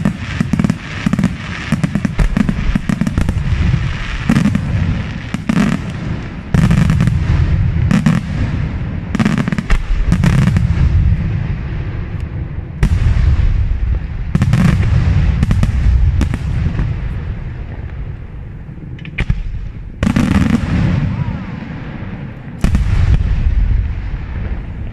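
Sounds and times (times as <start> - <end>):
fireworks bursting: 0.0 - 24.9
low rumbling booms: 0.0 - 24.9.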